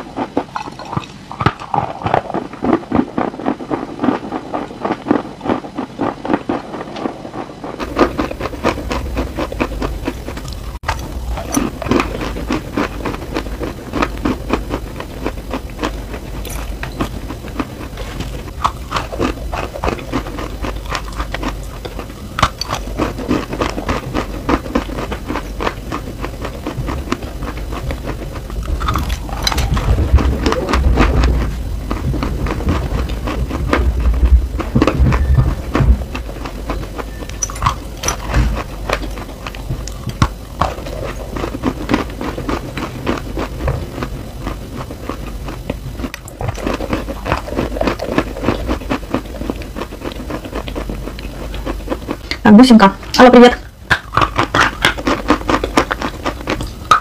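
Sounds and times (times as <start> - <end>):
crunching and chewing chalk: 0.0 - 57.0
steady low hum: 0.0 - 57.0.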